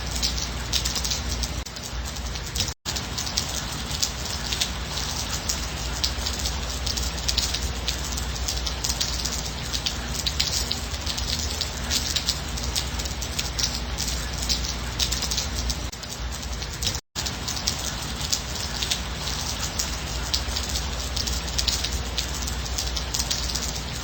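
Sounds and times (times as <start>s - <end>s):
gentle rain: 0.0s - 24.0s
raindrops striking close by: 0.0s - 24.0s.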